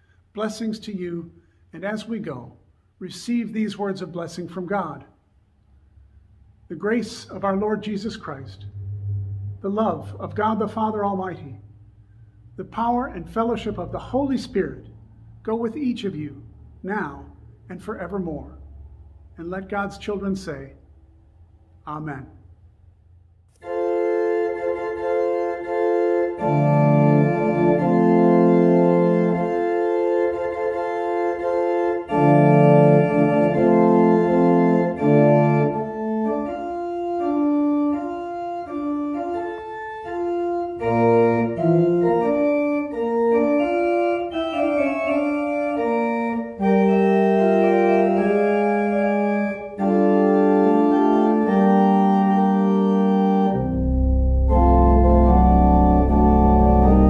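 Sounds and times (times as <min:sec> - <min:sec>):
organ playing sustained chords: 0:06.2 - 0:20.7, 0:23.5 - 0:57.0.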